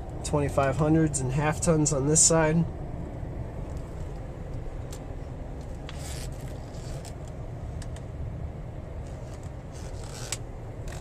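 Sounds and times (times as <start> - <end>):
car engine rumble: 0.0 - 11.0
tyres on the road: 0.0 - 11.0.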